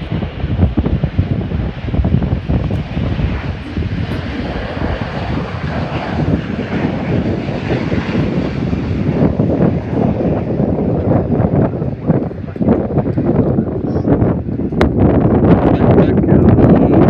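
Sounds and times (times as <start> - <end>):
jet engines running: 0.0 - 17.0
wind buffeting microphone: 0.0 - 17.0.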